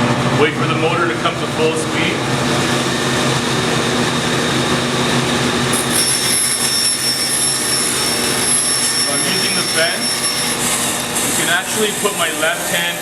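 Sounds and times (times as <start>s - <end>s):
bandsaw running: 2.0s - 13.0s.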